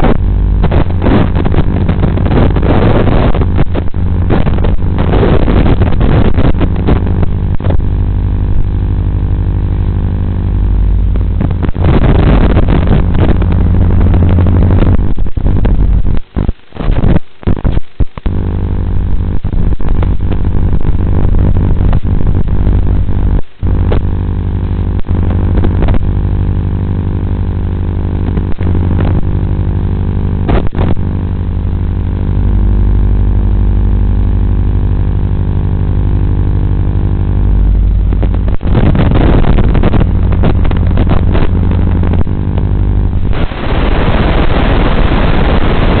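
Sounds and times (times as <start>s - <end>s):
radio crackling: 0.0s - 46.0s
static hiss: 0.0s - 46.0s.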